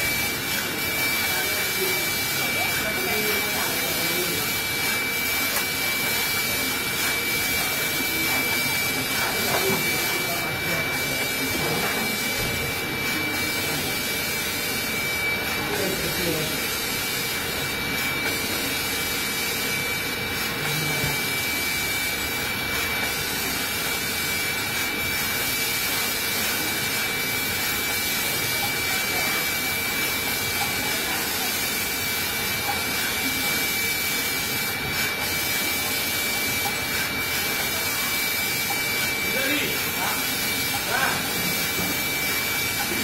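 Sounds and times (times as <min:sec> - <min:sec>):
high-pitched machine whine: 0:00.0 - 0:43.0
machines hissing: 0:00.0 - 0:43.0.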